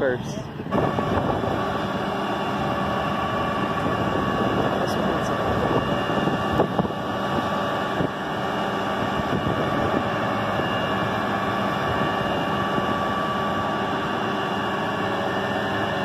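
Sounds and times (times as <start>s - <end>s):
tow truck engine running: 0.0s - 16.0s
winch humming: 0.0s - 16.0s.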